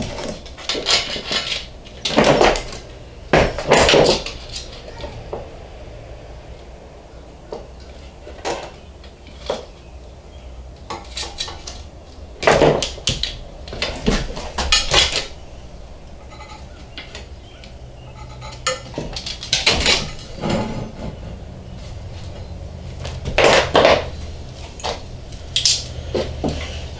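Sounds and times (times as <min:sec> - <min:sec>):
metal tools clanking and scraping: 0:00.0 - 0:05.6, 0:07.5 - 0:26.9.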